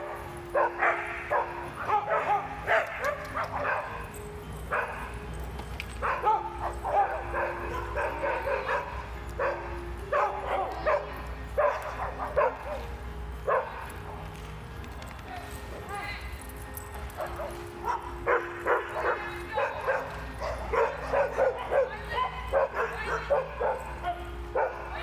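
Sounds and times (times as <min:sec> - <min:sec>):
dogs barking and yipping: 0:00.0 - 0:25.0.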